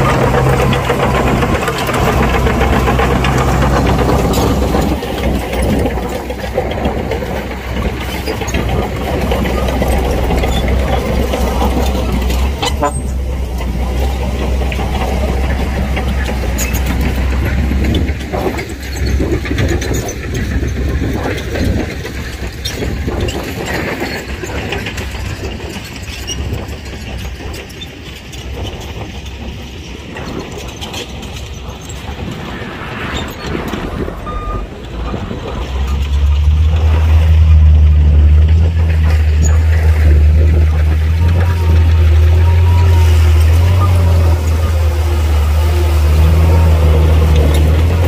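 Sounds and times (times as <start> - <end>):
deep diesel engine hum: 0.0 - 48.0
diesel machinery engine: 0.0 - 48.0
knocks and clanks: 0.0 - 48.0.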